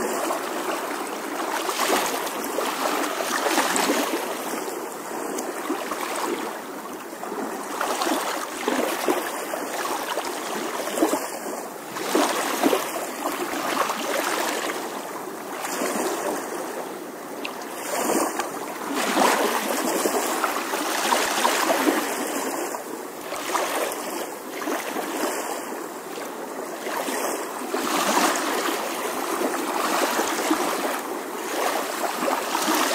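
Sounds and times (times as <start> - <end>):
running water rushing: 0.0 - 16.8, 17.4 - 32.9.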